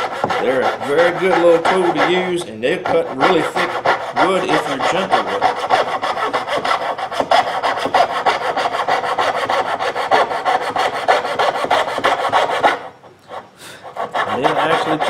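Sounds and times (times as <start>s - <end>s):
saw cutting through wood: 0.0s - 12.9s, 13.9s - 15.0s.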